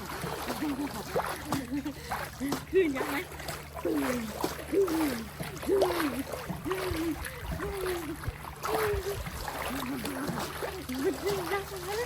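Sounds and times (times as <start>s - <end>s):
pool water lapping: 0.0s - 12.0s.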